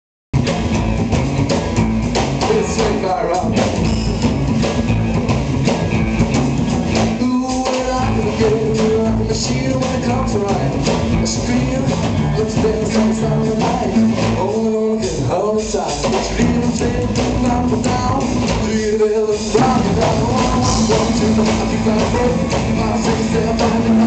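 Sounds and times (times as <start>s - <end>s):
upright double bass: 0.4s - 18.9s, 19.5s - 24.0s
drum kit beat: 0.4s - 24.0s
electric guitar: 0.4s - 24.0s.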